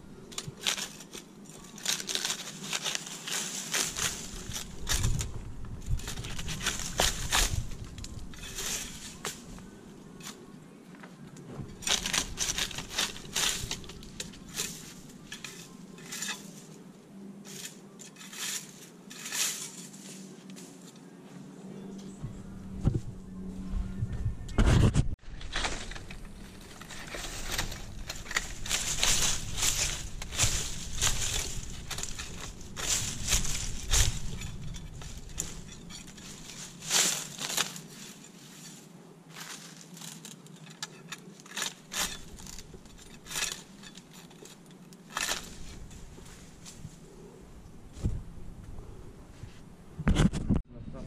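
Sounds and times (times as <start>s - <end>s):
dry palm fronds crunching: 0.0s - 22.0s, 25.2s - 48.2s.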